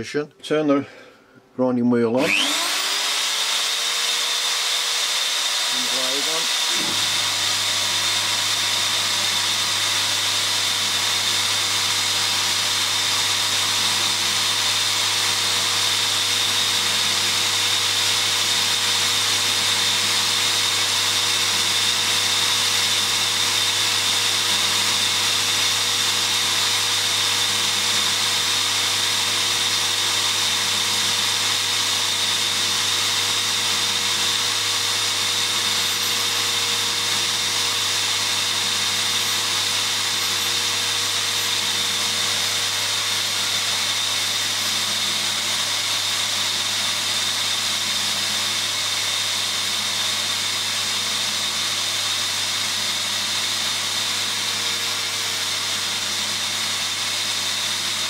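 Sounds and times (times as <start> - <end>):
grinder high-pitched whine: 2.2 - 58.0.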